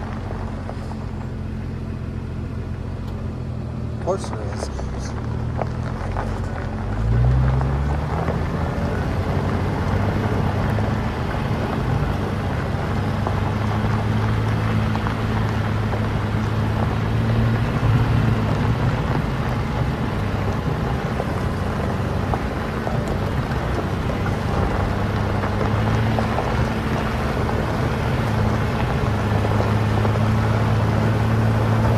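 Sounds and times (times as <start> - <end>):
car engine running under load: 0.0 - 31.9
tyre and road noise: 0.0 - 31.9.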